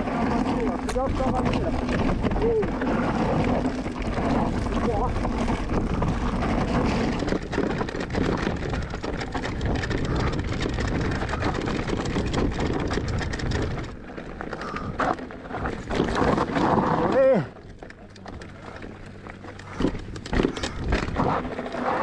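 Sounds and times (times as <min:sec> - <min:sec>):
bike rattling: 0:00.0 - 0:22.0
tyres clattering on loose rock: 0:00.0 - 0:22.0.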